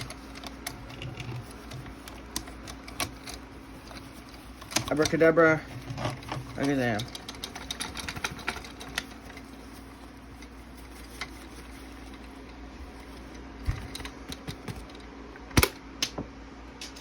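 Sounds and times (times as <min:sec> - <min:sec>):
plastic parts clicking: 0:00.0 - 0:15.0.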